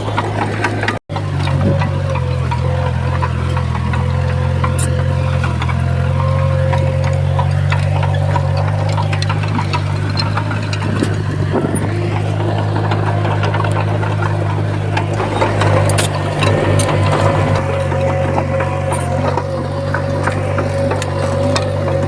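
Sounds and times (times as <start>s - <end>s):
bulldozer diesel engine running: 0.0s - 22.0s
metallic clicks and clanks: 0.1s - 22.0s.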